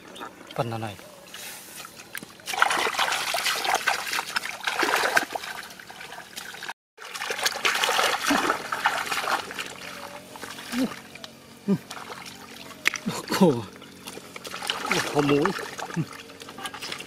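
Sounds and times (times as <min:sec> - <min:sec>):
hands splashing in muddy water: 0:01.8 - 0:13.2, 0:14.0 - 0:17.0.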